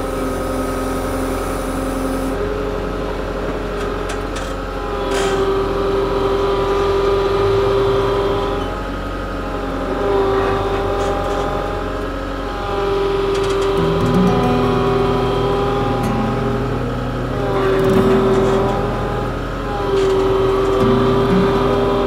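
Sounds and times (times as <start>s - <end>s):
loader engine under hydraulic load: 0.0s - 22.0s.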